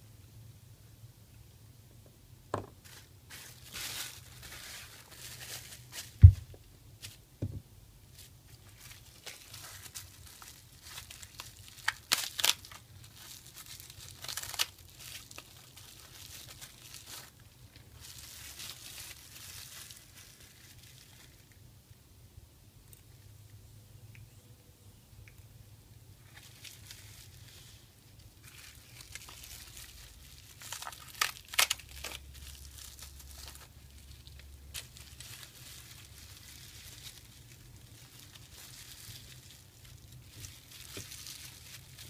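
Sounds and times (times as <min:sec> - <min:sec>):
bubble wrap crinkling: 0:02.6 - 0:07.3, 0:08.1 - 0:21.7, 0:26.2 - 0:42.0.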